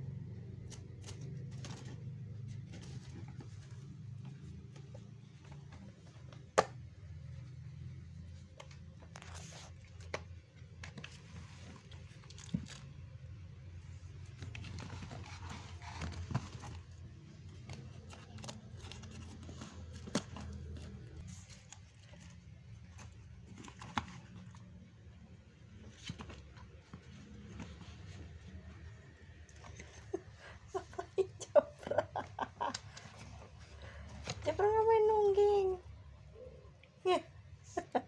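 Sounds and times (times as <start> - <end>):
kittens scuffling and rustling: 0.1 - 36.3.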